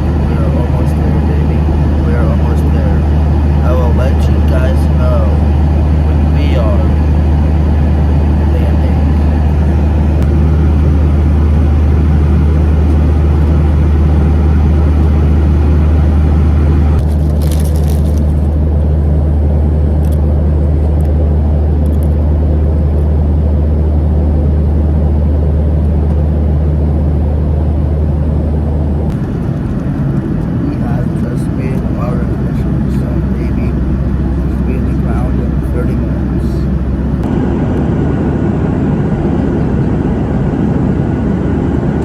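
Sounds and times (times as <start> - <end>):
airliner cabin engine rumble: 0.0 - 42.0.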